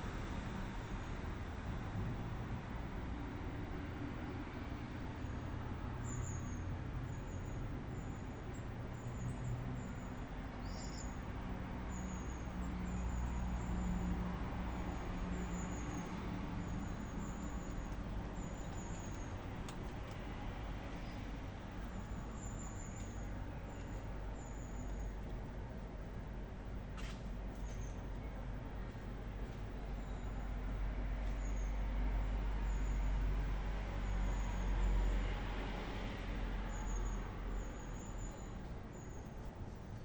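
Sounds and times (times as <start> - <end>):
traffic noise: 0.0 - 40.0
vehicle engine hum passing: 0.0 - 40.0.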